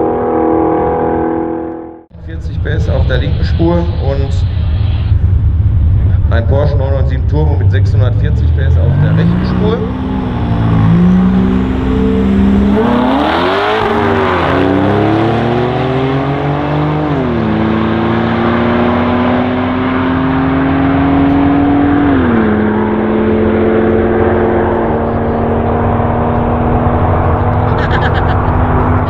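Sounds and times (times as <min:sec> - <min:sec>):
cars accelerating hard: 0:00.0 - 0:29.0.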